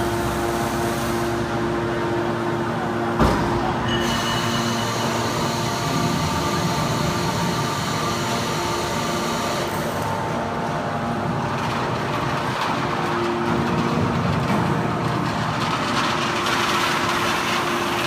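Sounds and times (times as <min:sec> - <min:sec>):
scrap metal baler machine hum: 0:00.0 - 0:18.0.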